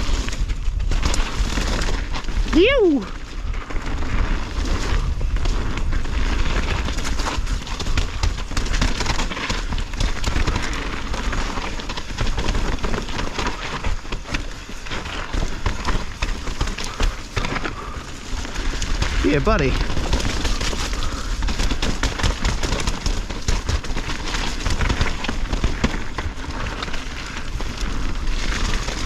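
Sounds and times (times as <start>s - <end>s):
bike rattling over rocks: 0.0s - 29.0s
tyre noise on dirt: 0.0s - 29.0s
wind rumble on microphone: 0.0s - 29.0s.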